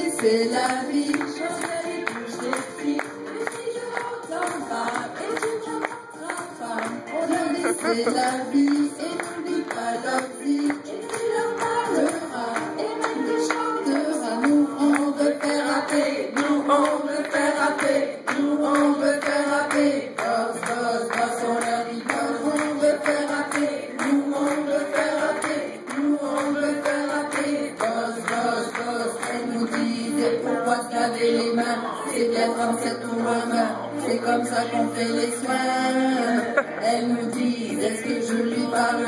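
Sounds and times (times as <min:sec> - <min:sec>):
people clapping a beat: 0:00.0 - 0:31.7
women singing into microphone: 0:00.0 - 0:39.0.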